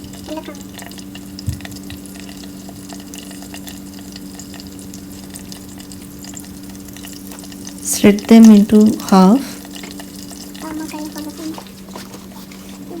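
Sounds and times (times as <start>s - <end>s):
low electrical hum: 0.0s - 13.0s
spices sizzling in hot oil: 0.0s - 13.0s.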